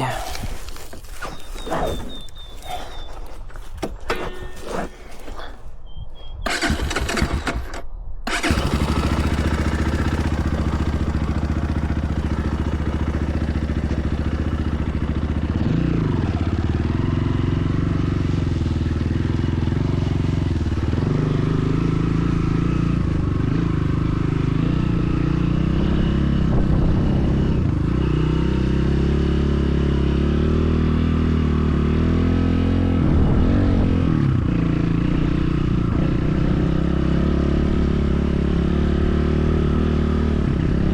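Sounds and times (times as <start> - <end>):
motorcycle engine running: 6.5 - 40.9.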